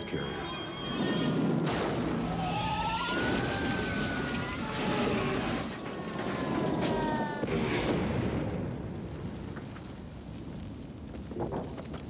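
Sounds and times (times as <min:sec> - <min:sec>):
dense rumbling noise: 0:01.2 - 0:12.0.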